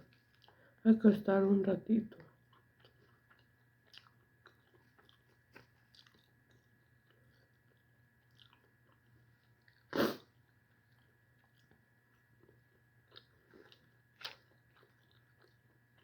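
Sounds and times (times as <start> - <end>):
soft chewing: 0.0 - 0.8, 2.0 - 16.0.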